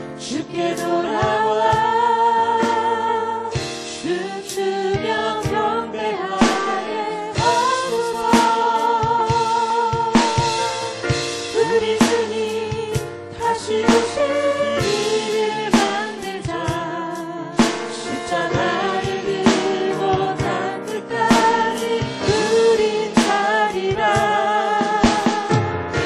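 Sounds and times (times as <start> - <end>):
band with drums: 0.0 - 26.0
group singing praise song: 0.0 - 26.0.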